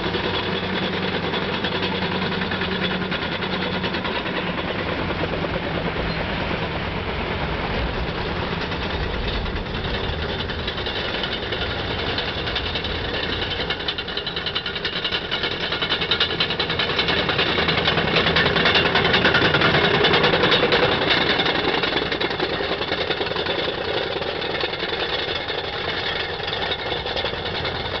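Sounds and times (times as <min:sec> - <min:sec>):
bulldozer diesel engine clattering: 0:00.0 - 0:28.0.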